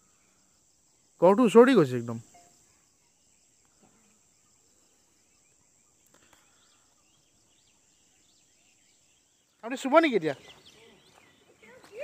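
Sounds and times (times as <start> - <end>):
faint chirps: 0.0 - 12.0.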